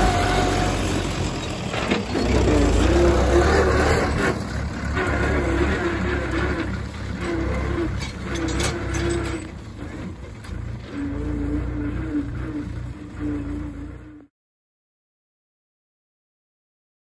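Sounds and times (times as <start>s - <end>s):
tractor diesel engine droning: 0.0s - 14.3s.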